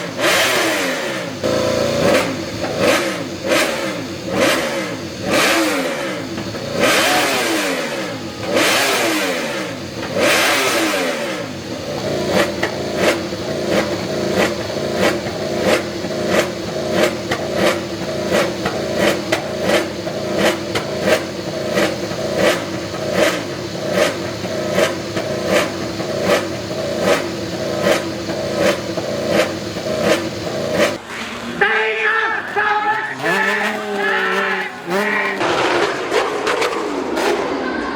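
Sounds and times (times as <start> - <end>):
engine revving and idling: 0.0 - 37.9.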